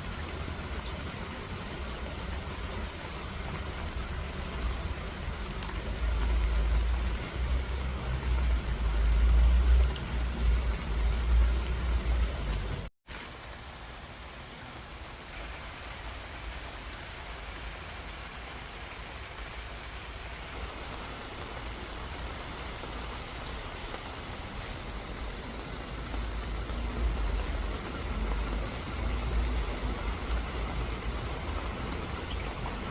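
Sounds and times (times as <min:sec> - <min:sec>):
steady rain hiss: 0:00.0 - 0:32.9.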